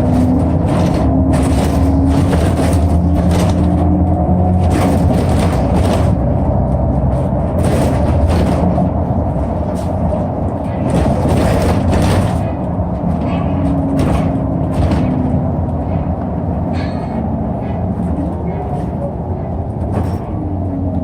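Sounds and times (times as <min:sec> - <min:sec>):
rattles and knocks: 0:00.0 - 0:20.6
bus engine rumble: 0:00.0 - 0:21.0.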